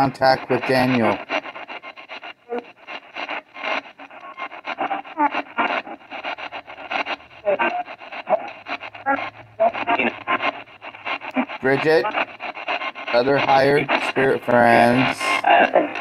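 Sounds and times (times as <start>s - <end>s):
clipped broadcast fragments: 0.0s - 16.0s
radio static sweeping stations: 0.0s - 16.0s.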